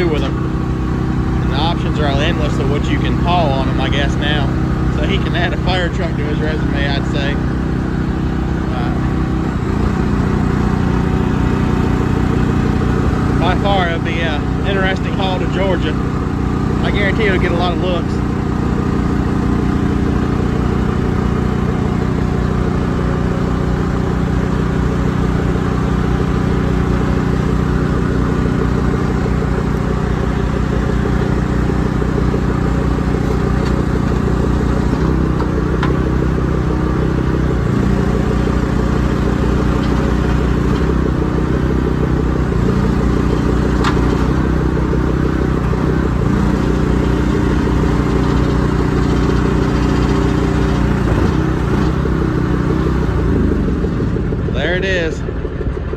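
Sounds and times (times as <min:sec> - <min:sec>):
large truck engine running: 0:00.0 - 0:55.9.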